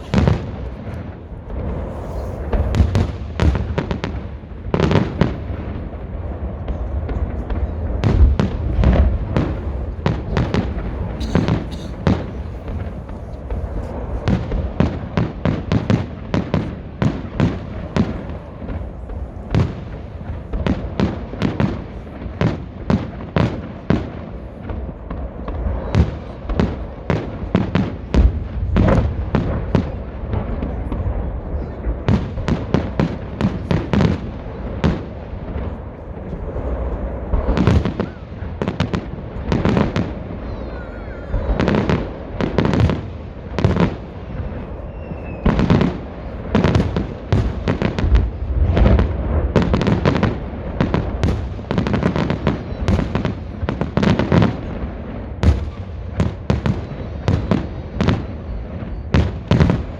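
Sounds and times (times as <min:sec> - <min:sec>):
continuous low rumble: 0:00.0 - 0:59.9
fireworks popping and crackling: 0:00.0 - 0:59.9
heavy fireworks booms: 0:00.0 - 0:59.9.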